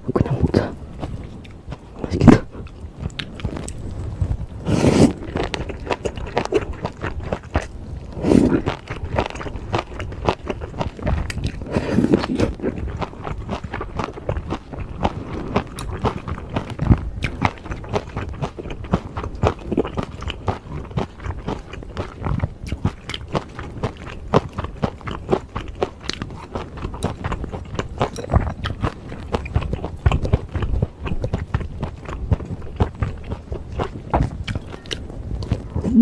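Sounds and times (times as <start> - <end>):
close-miked chewing with crunches: 0.0 - 36.0.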